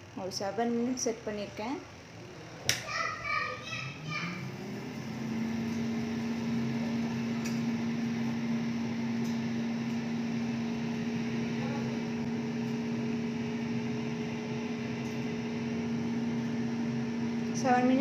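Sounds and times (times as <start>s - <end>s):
air fryer fan humming: 0.0s - 18.0s.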